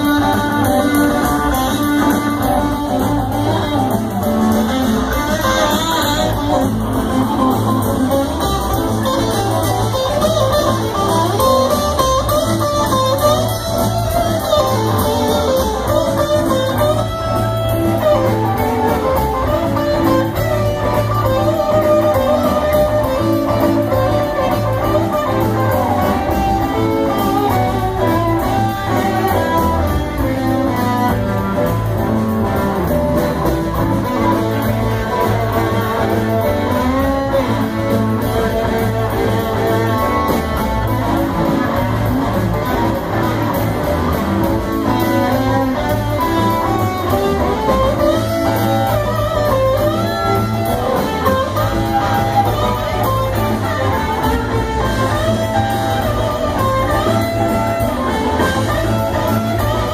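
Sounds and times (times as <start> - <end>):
live band with electric guitars: 0.0 - 59.9.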